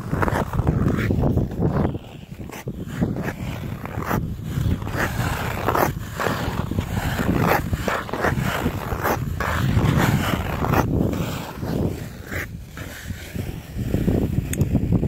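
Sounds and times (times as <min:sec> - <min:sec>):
ice skate blades scraping: 0:00.0 - 0:15.0.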